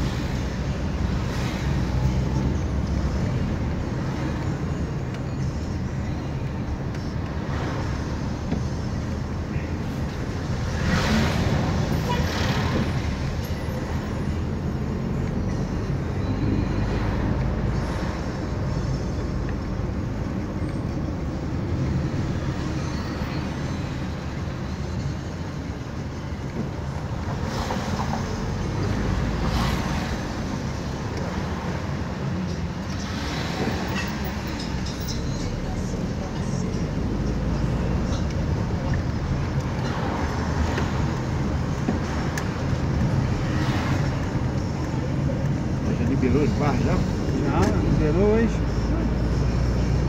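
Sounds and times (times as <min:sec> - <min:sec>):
car engine hum: 0:00.0 - 0:50.0.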